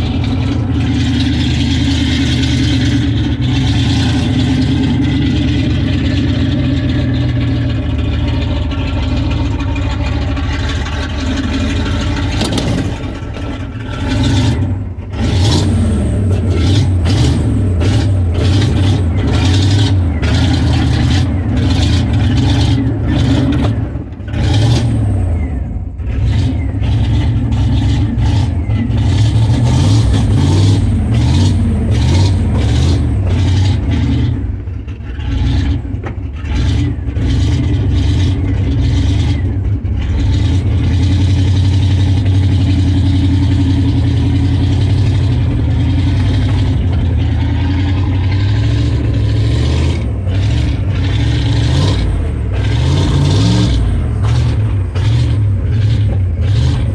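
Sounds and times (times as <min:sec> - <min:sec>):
truck engine running unevenly: 0:00.0 - 0:56.9.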